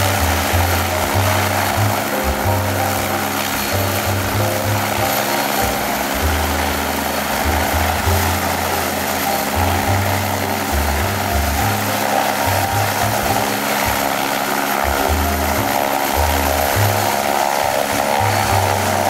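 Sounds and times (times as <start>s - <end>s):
helicopter turbine and rotors whirring: 0.0s - 19.0s.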